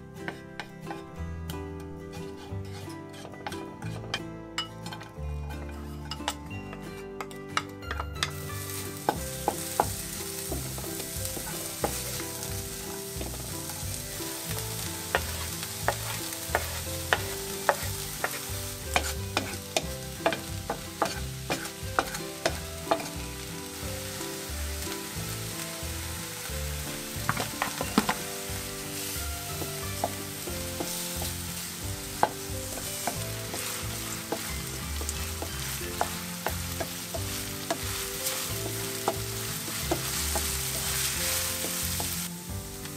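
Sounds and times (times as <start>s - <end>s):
low tune: 0.0s - 42.9s
sizzling crackle with pops: 7.5s - 42.9s.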